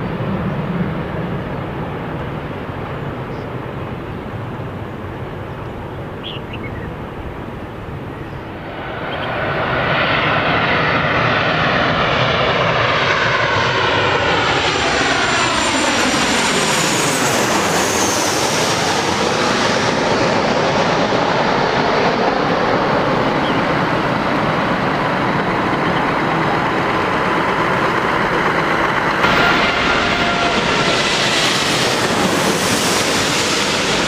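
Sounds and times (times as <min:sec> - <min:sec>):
high jet engine whine: 0:00.0 - 0:34.0
jet airliner passing overhead: 0:00.0 - 0:34.0.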